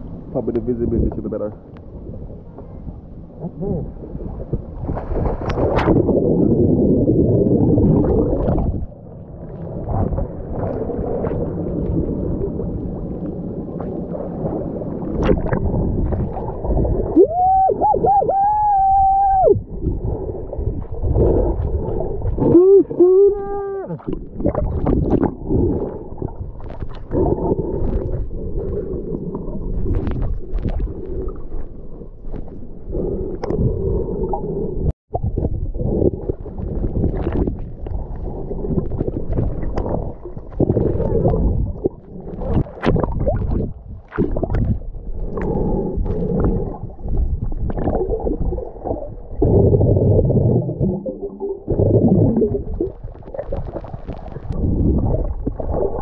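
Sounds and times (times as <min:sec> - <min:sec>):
muffled underwater rumble: 0:00.0 - 0:56.0
water bubbling and sloshing: 0:00.0 - 0:56.0.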